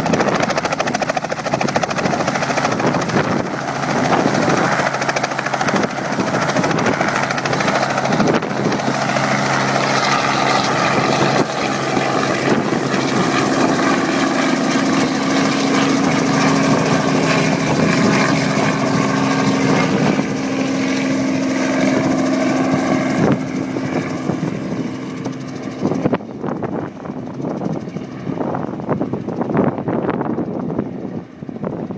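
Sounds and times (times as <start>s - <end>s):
helicopter engine and rotor drone: 0.0s - 31.9s.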